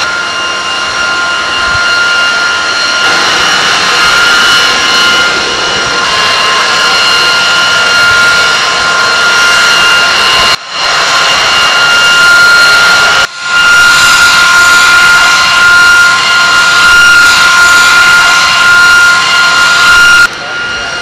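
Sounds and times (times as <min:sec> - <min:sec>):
high steady whine: 0:00.0 - 0:21.0
jet turbine engine roar: 0:00.0 - 0:21.0.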